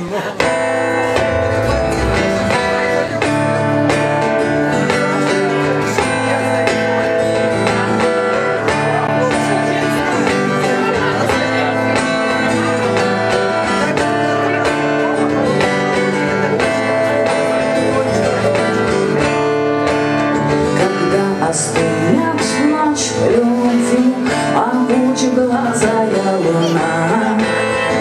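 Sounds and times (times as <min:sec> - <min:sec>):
drums keeping a steady beat: 0:00.0 - 0:28.0
guitar chords: 0:00.0 - 0:28.0.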